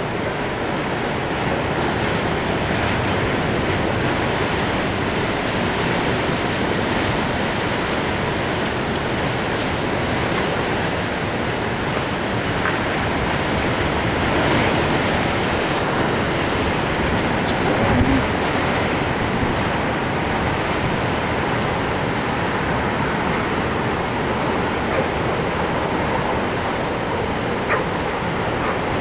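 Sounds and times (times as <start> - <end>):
surf breaking on shore: 0.2 - 29.0
wind on microphone: 1.0 - 29.0.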